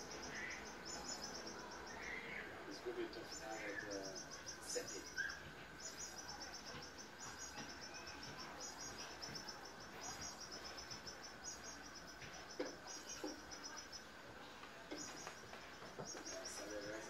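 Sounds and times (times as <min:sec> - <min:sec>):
insect chirping trills: 0:00.0 - 0:14.2, 0:14.9 - 0:17.0.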